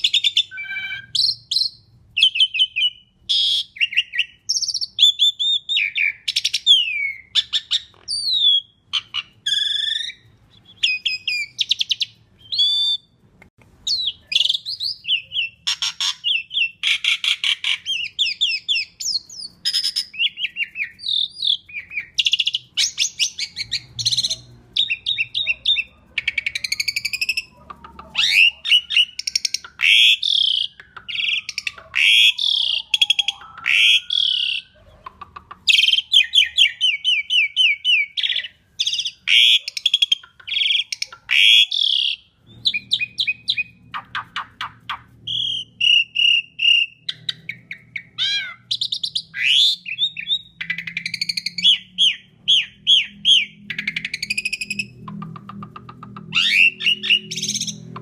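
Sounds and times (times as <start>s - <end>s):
starling singing: 0.0s - 13.2s, 13.8s - 58.0s.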